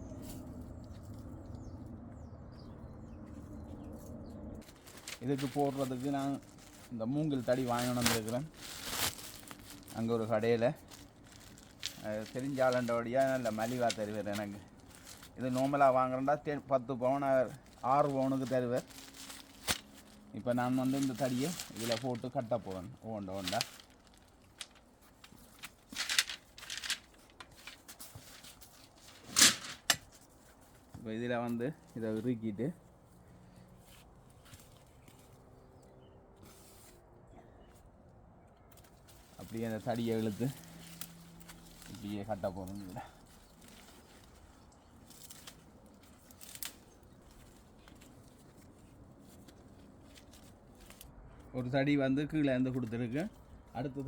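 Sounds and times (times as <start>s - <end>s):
bamboo canes rustling and scraping: 3.8s - 32.7s, 33.8s - 35.6s, 36.4s - 37.0s, 38.7s - 51.5s.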